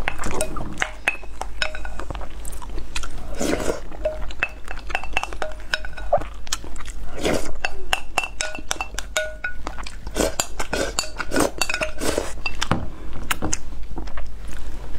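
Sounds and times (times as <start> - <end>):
person chewing: 0.0 - 14.7.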